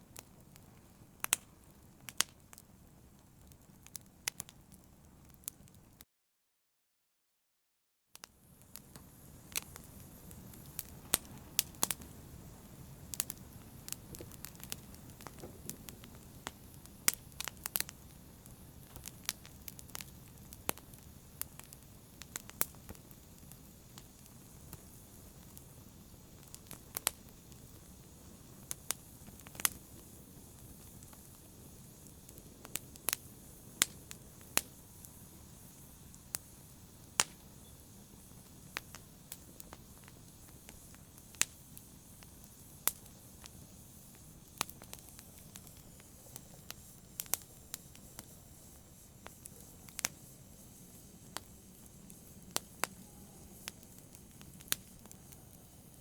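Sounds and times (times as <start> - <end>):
fire crackling in a brazier: 0.0 - 6.0, 8.1 - 56.0.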